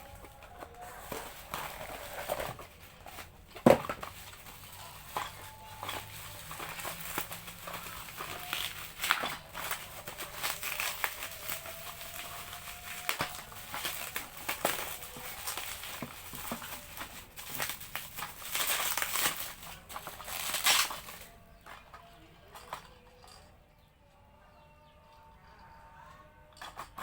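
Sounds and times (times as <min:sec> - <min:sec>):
plastic packaging crinkling: 0:00.0 - 0:23.4.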